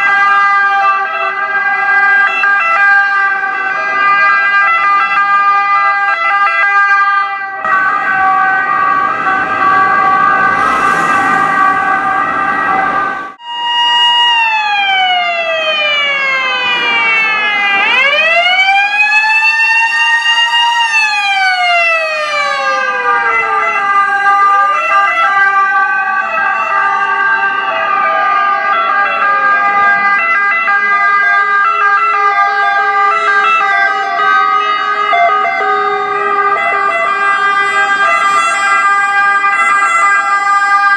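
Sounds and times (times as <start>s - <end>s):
steady siren tones: 0.0s - 40.9s
wailing siren: 0.0s - 40.9s.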